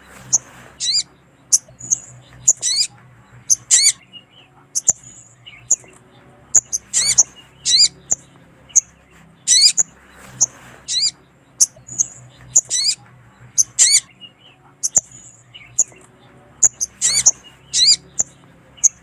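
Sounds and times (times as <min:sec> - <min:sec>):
faint low hum: 0:00.0 - 0:19.0
sunbird high chirps and trills: 0:00.1 - 0:19.0.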